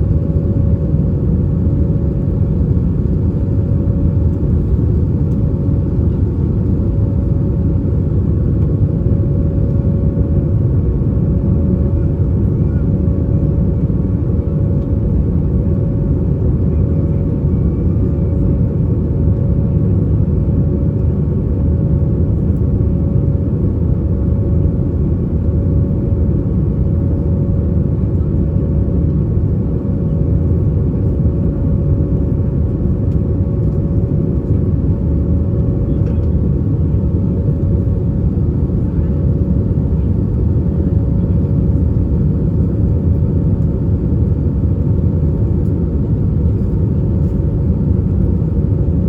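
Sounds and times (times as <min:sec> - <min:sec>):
airliner engines and airflow rumble: 0:00.0 - 0:49.0.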